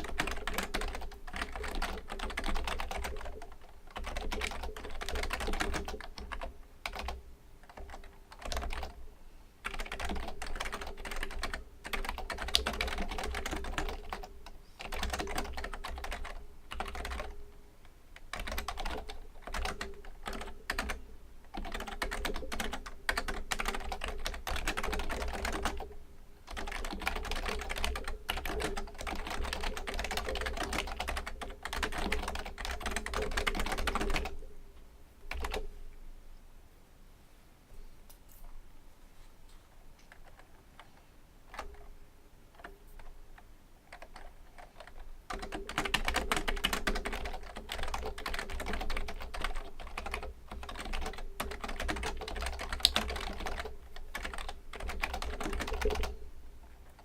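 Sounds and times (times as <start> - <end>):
keyboard typing: 0.0 - 9.0, 9.6 - 17.4, 18.2 - 34.5, 35.3 - 35.7, 40.0 - 40.9, 41.5 - 41.9, 42.5 - 43.2, 43.8 - 56.2.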